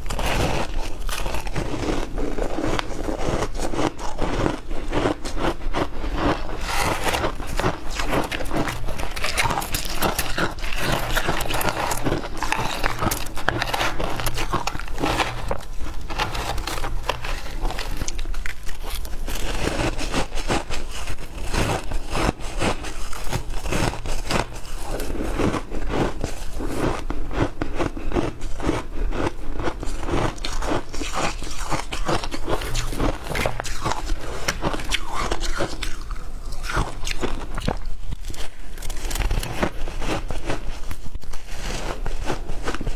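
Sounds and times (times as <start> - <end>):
ice crunching between teeth: 0.0 - 42.9.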